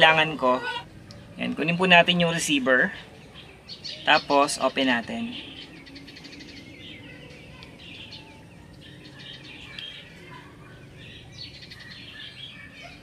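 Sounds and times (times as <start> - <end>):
low steady hum: 0.0 - 13.0
small birds chirping: 0.0 - 13.0.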